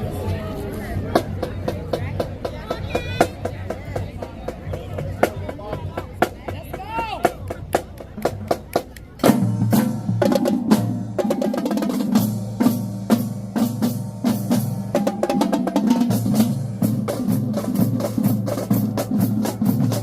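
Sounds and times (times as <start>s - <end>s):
marching drumline playing: 1.0s - 20.0s.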